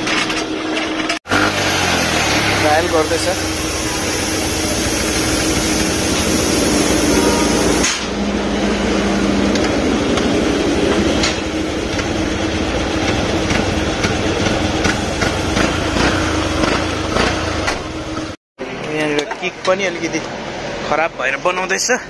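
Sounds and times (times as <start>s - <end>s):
scooter engine revving and idling: 0.6s - 18.4s.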